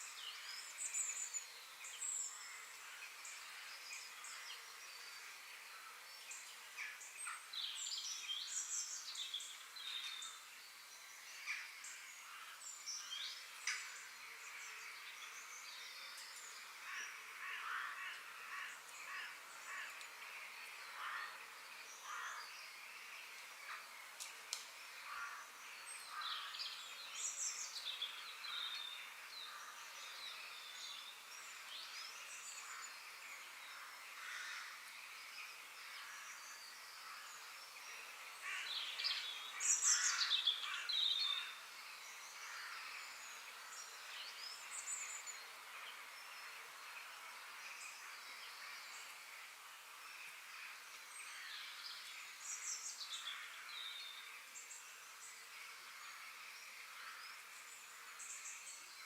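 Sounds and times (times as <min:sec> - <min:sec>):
birds chirping and singing: 0:00.0 - 0:49.2
high-pitched background hiss: 0:00.0 - 0:59.0.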